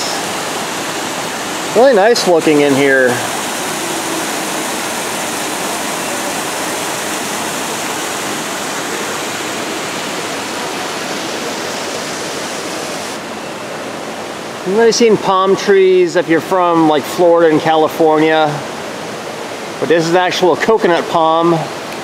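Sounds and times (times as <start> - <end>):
small waterfall splashing: 0.0 - 22.0.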